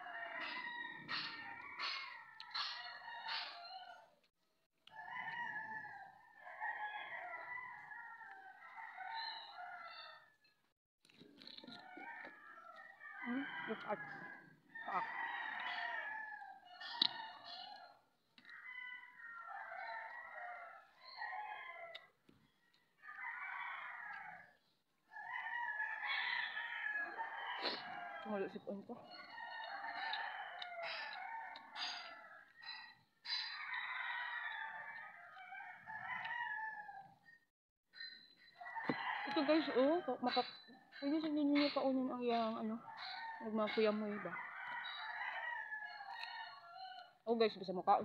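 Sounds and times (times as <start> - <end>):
rooster crowing: 0.0 - 4.1, 4.9 - 10.4, 11.7 - 37.3, 38.4 - 47.4.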